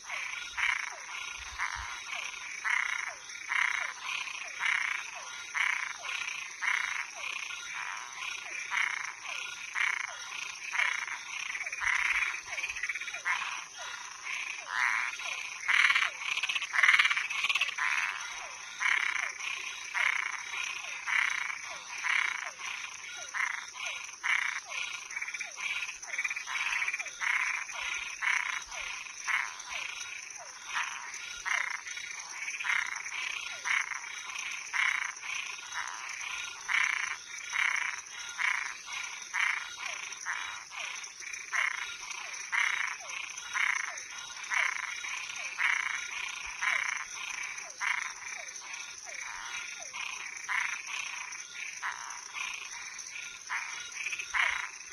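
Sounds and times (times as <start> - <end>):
frogs calling: 0.0 - 54.9
high-pitched insect trill: 0.0 - 54.9.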